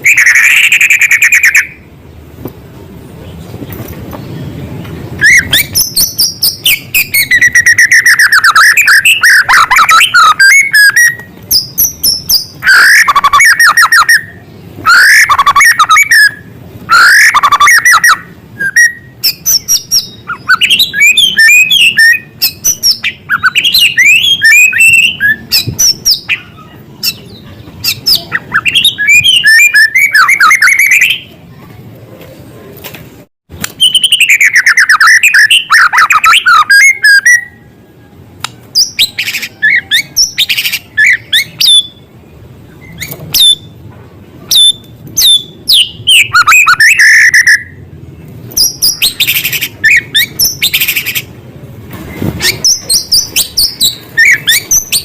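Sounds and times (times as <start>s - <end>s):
songbird whistling and trilling: 0.0s - 1.9s, 5.2s - 31.3s, 33.7s - 37.7s, 38.7s - 42.1s, 42.7s - 43.8s, 44.5s - 47.8s, 48.5s - 51.3s, 52.2s - 55.0s.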